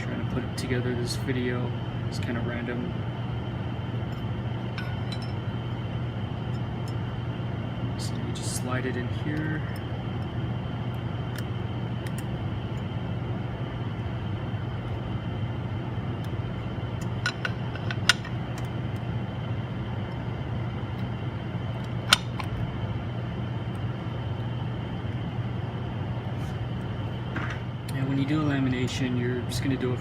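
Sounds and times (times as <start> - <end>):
laminating machine humming: 0.0 - 30.0.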